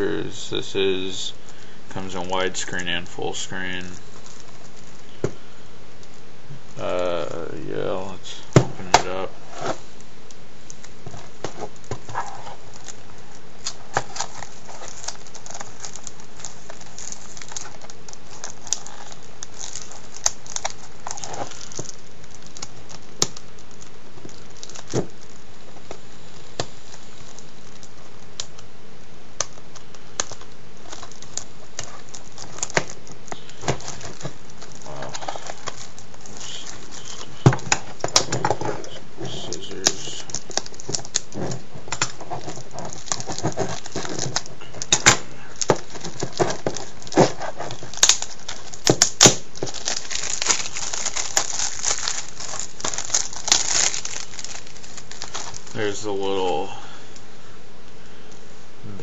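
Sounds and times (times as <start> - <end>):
steady hiss: 0.0 - 59.0
plastic shrink wrap tearing: 0.6 - 5.2, 10.6 - 28.6, 29.4 - 56.2.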